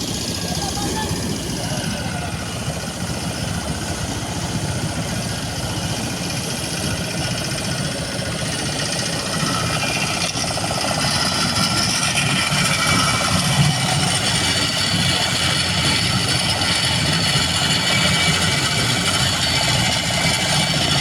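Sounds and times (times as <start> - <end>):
motorboat engine running: 0.0 - 21.0.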